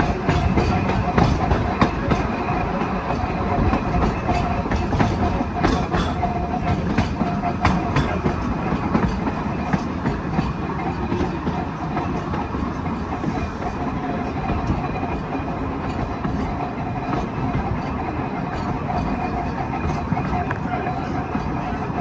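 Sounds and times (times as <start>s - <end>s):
steel wheels rumbling on rail: 0.0s - 22.0s.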